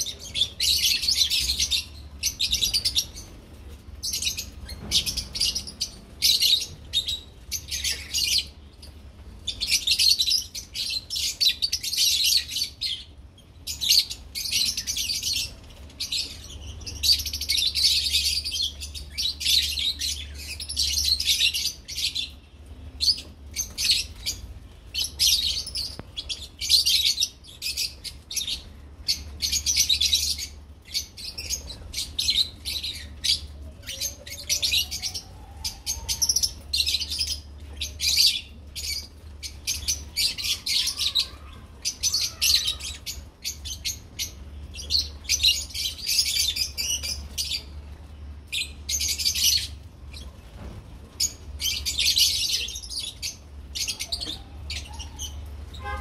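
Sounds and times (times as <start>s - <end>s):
lovebirds chattering: 0.0s - 56.0s.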